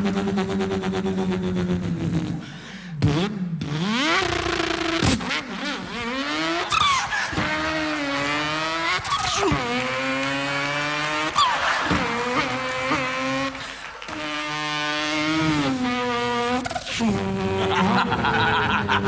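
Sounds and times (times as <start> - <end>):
man imitating car engine: 0.0 - 19.0.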